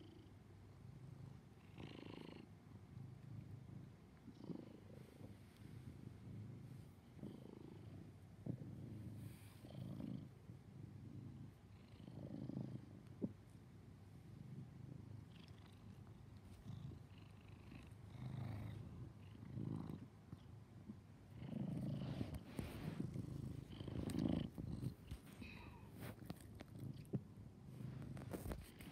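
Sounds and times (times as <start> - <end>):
cat purring: 0.0 - 28.9.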